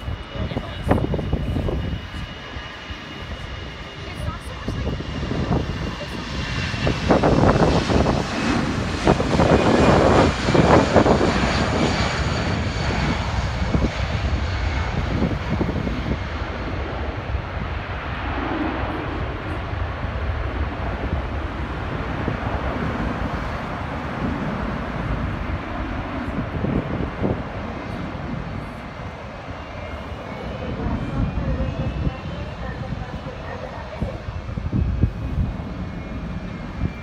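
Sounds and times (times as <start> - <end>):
high engine whine: 0.0 - 37.0
jet engines roaring: 0.0 - 37.0.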